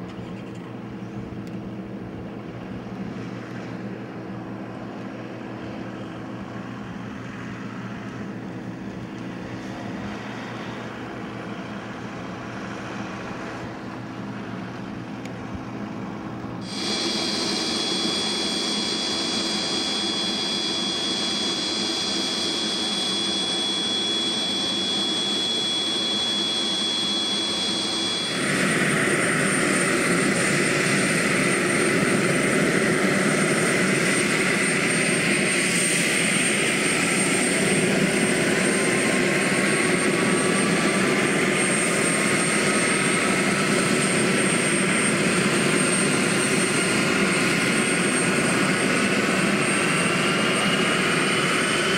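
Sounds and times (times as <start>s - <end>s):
turboprop engine turbine whine: 0.0s - 51.9s.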